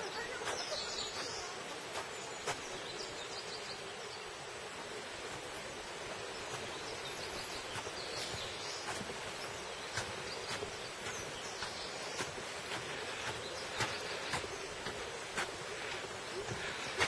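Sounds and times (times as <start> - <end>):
faint bird chirps: 0.0 - 17.0
stream rushing: 0.0 - 17.0.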